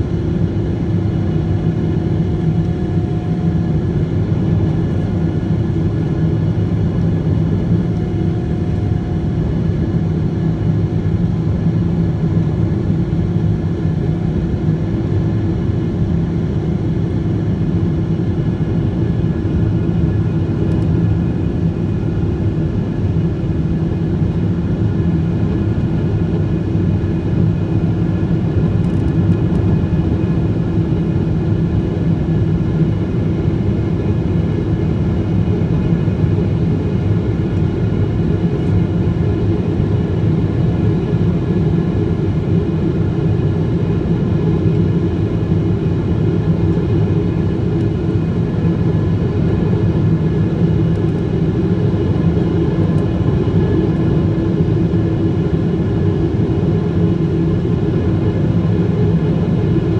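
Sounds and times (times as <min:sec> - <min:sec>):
constant engine tones: 0:00.0 - 0:59.9
jet engine cabin rumble: 0:00.0 - 0:59.9.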